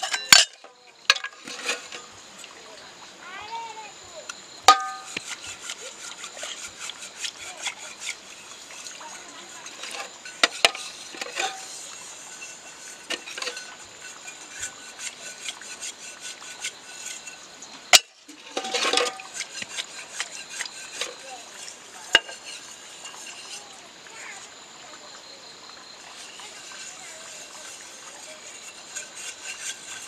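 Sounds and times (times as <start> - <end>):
utensils clinking against pot: 0.0 - 2.2, 4.6 - 23.8, 26.0 - 30.0.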